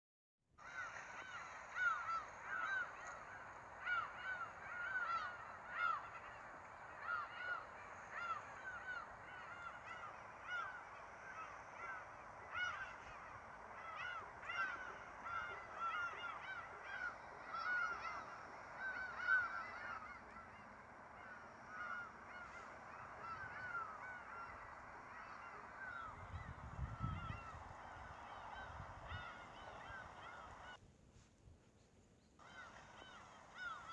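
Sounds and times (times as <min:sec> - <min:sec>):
honking animal calls: 0:00.7 - 0:30.7.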